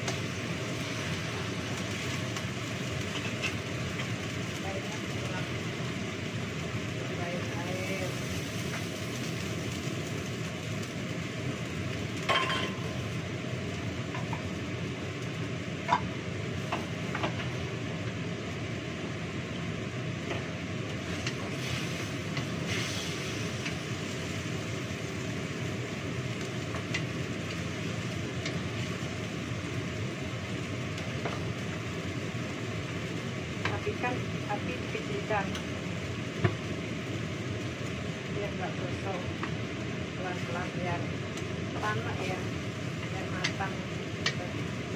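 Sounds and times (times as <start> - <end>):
meat frying in a pan: 0.0 - 44.9.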